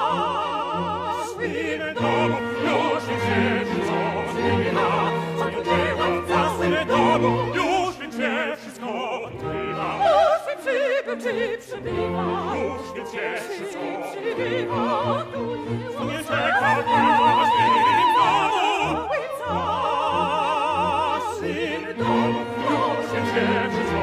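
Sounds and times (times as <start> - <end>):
operatic singing: 0.0 - 24.0
symphony orchestra: 0.0 - 24.0.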